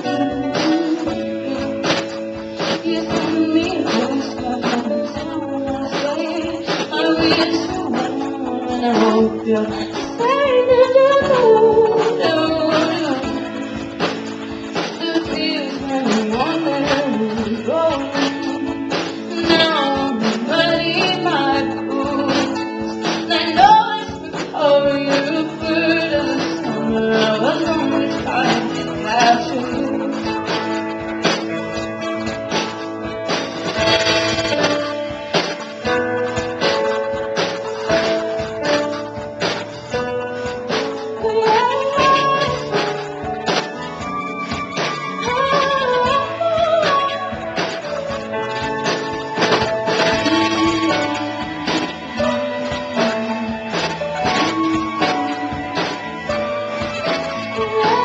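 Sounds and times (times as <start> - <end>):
woman singing: 0.0 - 31.6, 39.8 - 58.0
strummed acoustic guitar: 0.0 - 58.0.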